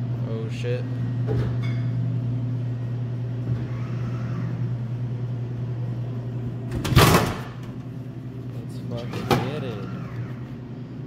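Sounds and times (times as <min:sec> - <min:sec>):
vending machine humming: 0:00.0 - 0:11.0.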